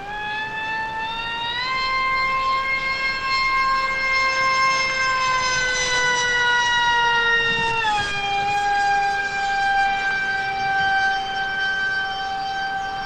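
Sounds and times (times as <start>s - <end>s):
electric motor and propeller whine: 0.0s - 13.0s.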